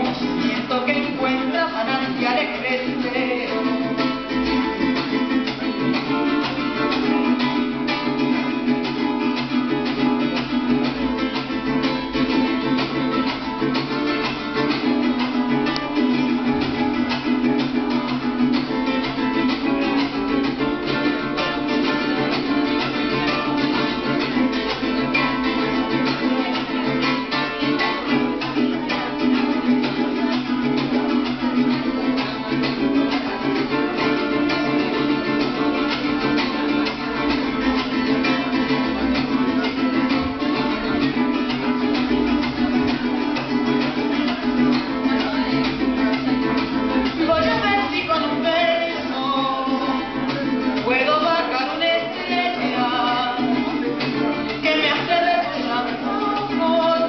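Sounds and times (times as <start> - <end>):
plucked string instrument: 0.0 - 57.0.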